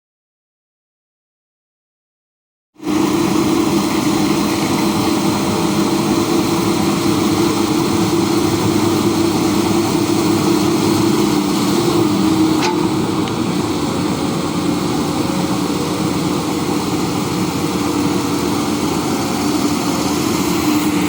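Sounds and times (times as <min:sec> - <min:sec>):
excavator diesel engine humming: 0:02.8 - 0:21.0.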